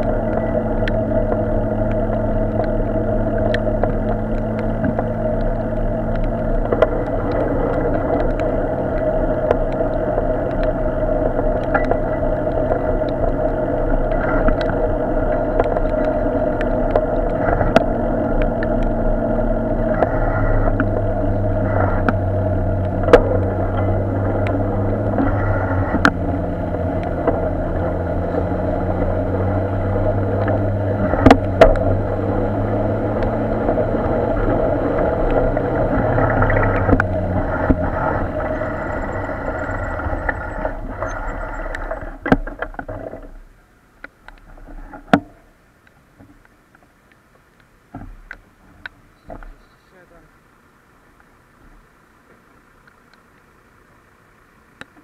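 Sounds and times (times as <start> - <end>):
car engines idling in traffic: 0.0 - 55.0.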